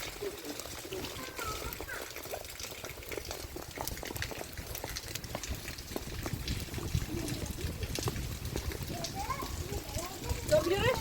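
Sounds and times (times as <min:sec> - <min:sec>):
water popping and dripping: 0:00.0 - 0:11.0.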